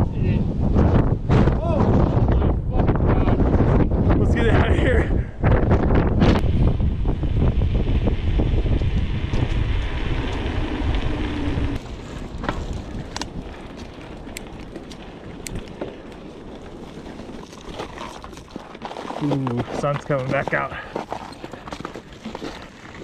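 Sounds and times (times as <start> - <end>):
strong wind buffeting microphone: 0.0 - 21.9.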